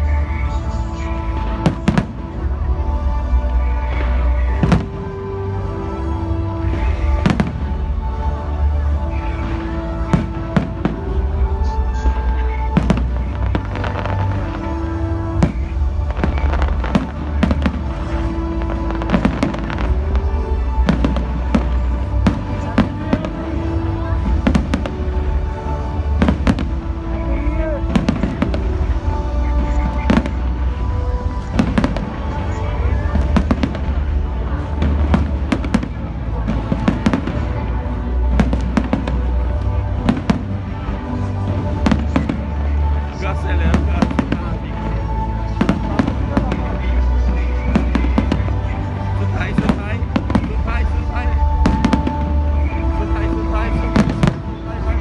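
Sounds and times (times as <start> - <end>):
music with low bass: 0.0 - 55.0
fireworks banging: 0.2 - 5.4, 6.2 - 55.0.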